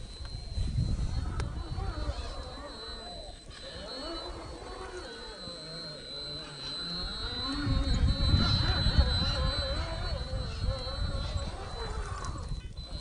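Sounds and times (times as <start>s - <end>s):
electric motor whining: 0.0s - 13.0s
steady high-pitched whine: 0.0s - 13.0s.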